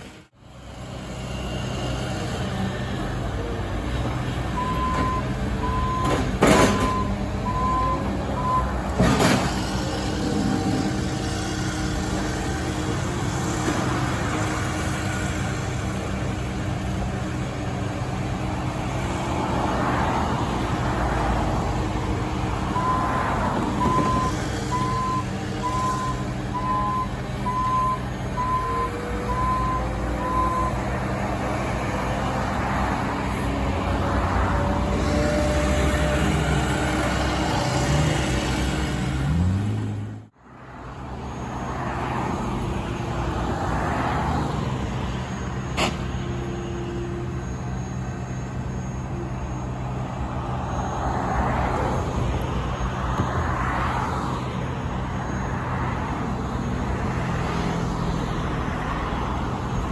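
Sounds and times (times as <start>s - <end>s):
cars passing: 0.0s - 59.9s
diesel engine running: 0.0s - 59.9s.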